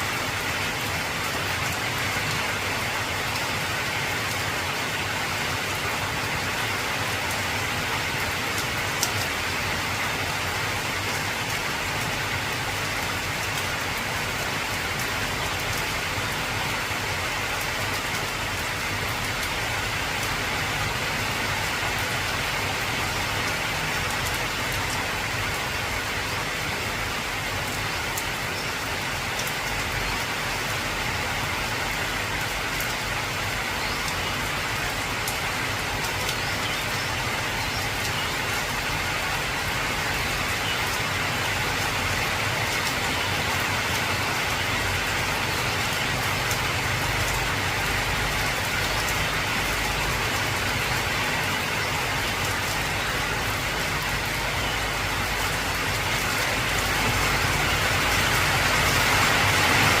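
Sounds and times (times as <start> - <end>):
heavy rain on a tin roof: 0.0 - 60.0.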